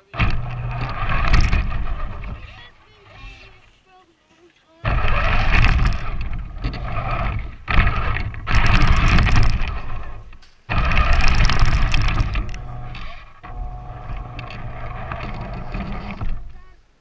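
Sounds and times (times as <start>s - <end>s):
toy truck motor and tyre noise: 0.0s - 3.7s, 4.8s - 16.8s.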